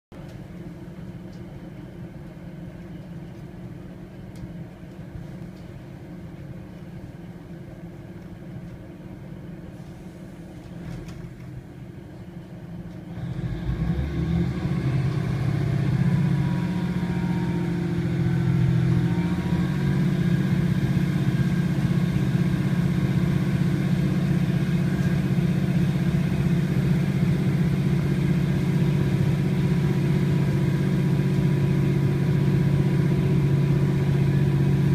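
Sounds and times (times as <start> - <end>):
train diesel engine: 0.1 - 34.9.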